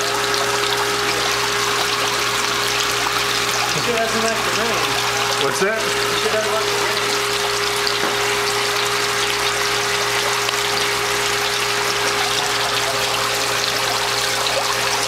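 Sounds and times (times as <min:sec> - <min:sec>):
water falling into basin: 0:00.0 - 0:15.0.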